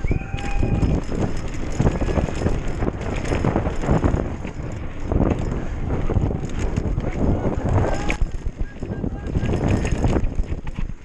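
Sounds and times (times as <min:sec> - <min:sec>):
mountain bike rattling: 0:00.0 - 0:11.0
wind rumble on microphone: 0:00.0 - 0:11.0.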